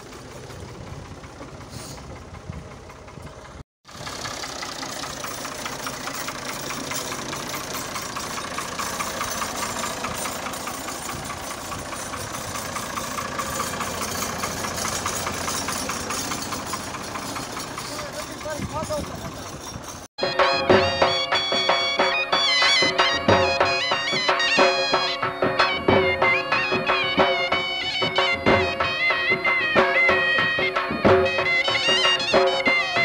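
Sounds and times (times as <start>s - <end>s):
diesel tractor engine idling: 0.0s - 33.0s.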